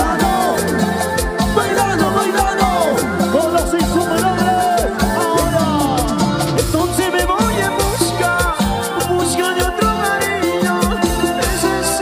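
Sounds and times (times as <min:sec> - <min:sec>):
live band dance music: 0:00.0 - 0:12.0.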